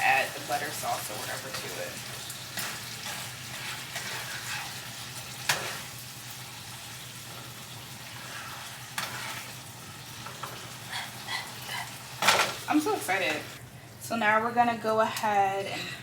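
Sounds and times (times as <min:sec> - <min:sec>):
chicken sizzling in a pan: 0:00.0 - 0:13.6
vent fan humming: 0:00.0 - 0:16.0.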